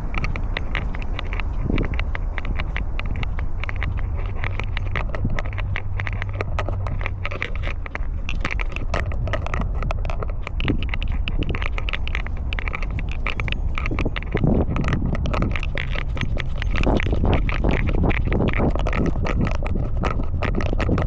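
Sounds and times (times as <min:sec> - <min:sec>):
clicks and scrapes: 0:00.0 - 0:21.0
collar camera rubbing noise: 0:00.0 - 0:21.0
low rumble: 0:00.0 - 0:21.0.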